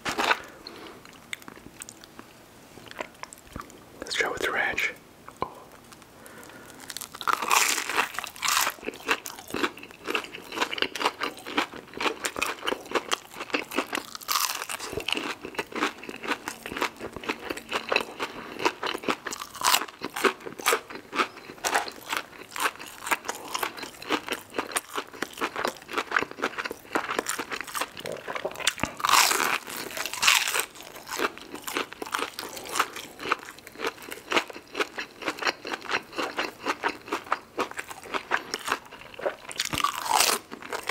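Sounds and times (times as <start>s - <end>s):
crunchy chewing of fried food: 0.0s - 4.4s, 5.6s - 40.9s.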